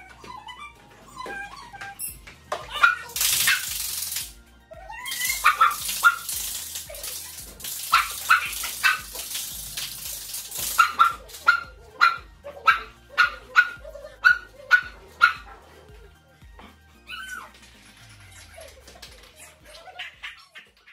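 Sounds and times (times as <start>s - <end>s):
small dogs barking: 0.0s - 4.2s, 4.8s - 17.6s.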